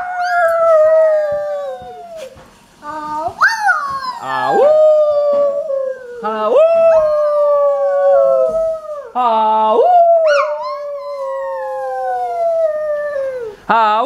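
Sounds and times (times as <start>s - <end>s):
dog howling: 0.0s - 2.4s, 3.4s - 9.2s, 9.8s - 13.6s.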